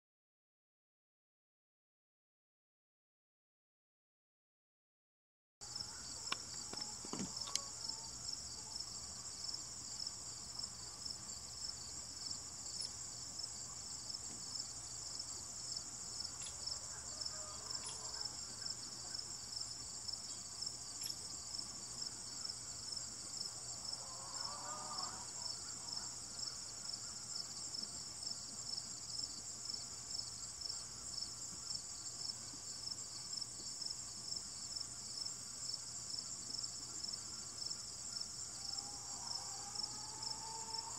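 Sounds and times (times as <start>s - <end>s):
insects chirping: 5.6s - 40.9s.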